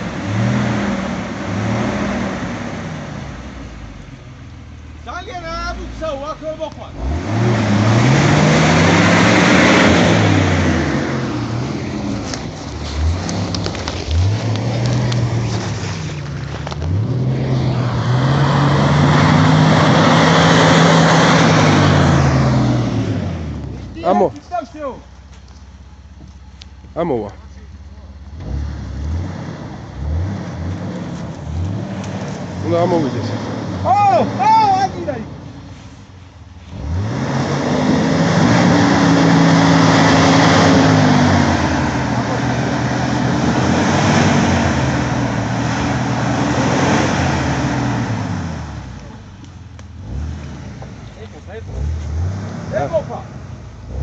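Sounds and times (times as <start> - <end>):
engine revving: 0.0 - 4.1, 5.5 - 25.0, 27.6 - 35.7, 36.6 - 54.0.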